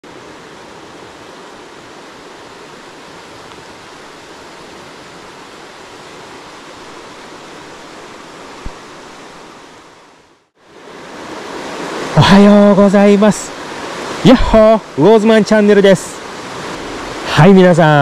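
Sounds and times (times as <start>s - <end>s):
heavy rain: 0.0s - 18.0s
river water rushing: 0.0s - 18.0s.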